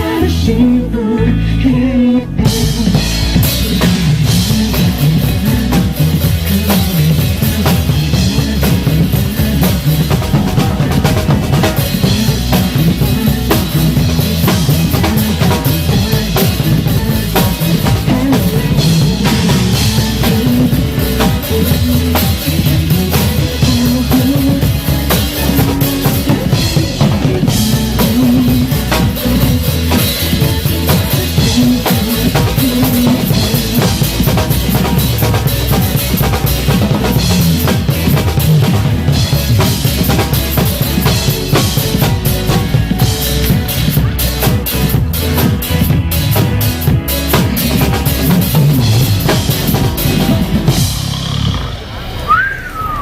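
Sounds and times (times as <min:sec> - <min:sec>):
drum kit playing: 0:00.0 - 0:00.7, 0:02.3 - 0:53.0
recorded pop music: 0:00.0 - 0:51.2.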